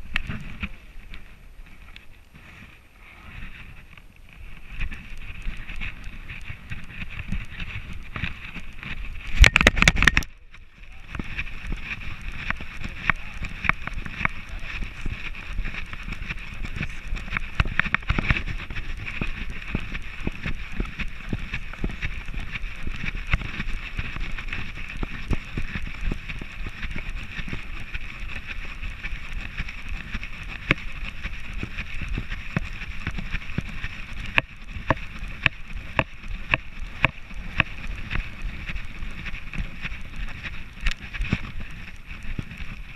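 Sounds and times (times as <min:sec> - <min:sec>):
rubbing and clicking on camera: 0:00.0 - 0:42.9.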